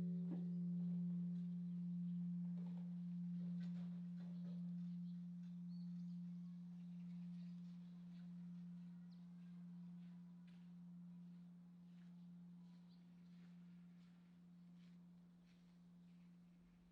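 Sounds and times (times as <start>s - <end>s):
bronze temple bell humming: 0.0s - 16.9s.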